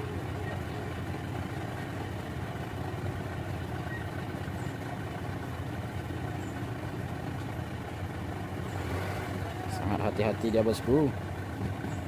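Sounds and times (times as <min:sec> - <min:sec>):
truck diesel engine at low revs: 0:00.0 - 0:12.0.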